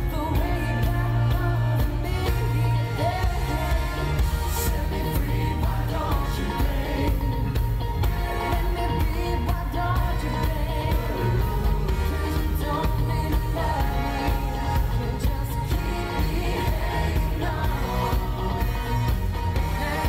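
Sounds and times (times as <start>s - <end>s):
band with heavy bass: 0.0s - 20.0s
male vocal group singing: 0.0s - 20.0s.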